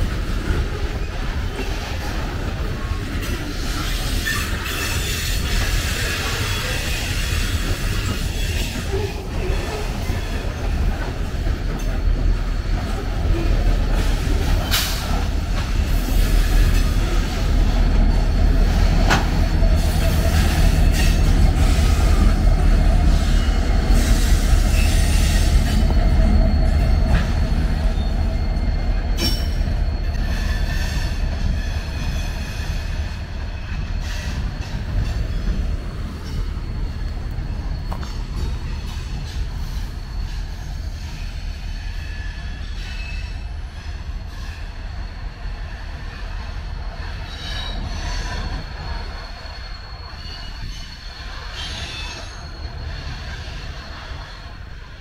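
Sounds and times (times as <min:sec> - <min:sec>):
diesel locomotive engine hum: 0:00.0 - 0:55.0
low train rumble: 0:00.0 - 0:55.0
train wheels squealing: 0:00.0 - 0:55.0.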